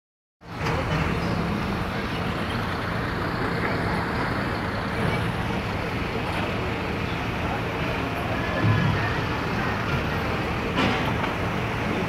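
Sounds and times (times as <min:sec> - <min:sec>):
engine rumble: 0:00.4 - 0:12.0
open-air noise: 0:00.4 - 0:12.0.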